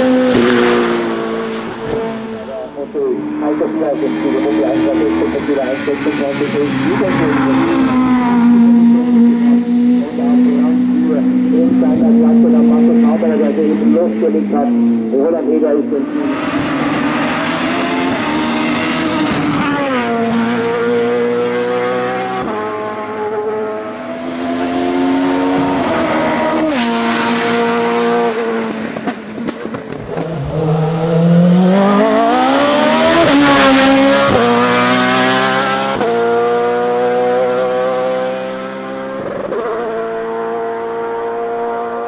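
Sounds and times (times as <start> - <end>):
race car engine accelerating: 0.0 - 42.0.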